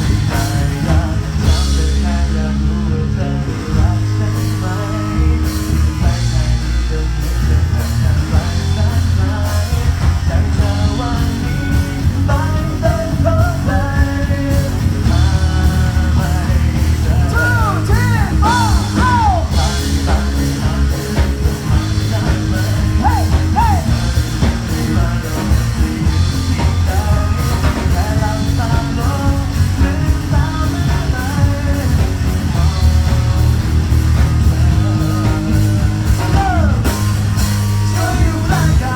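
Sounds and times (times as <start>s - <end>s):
bass guitar: 0.0s - 38.9s
drums: 0.0s - 38.9s
electric guitar bending high notes: 0.0s - 38.9s
person singing: 0.0s - 38.9s.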